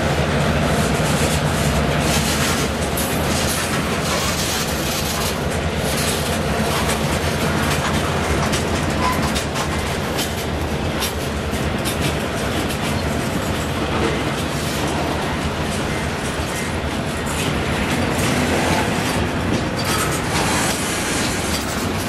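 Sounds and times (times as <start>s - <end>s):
train wheels rumbling on rail: 0.0s - 22.0s
wheels clicking over rail joints: 0.0s - 22.0s.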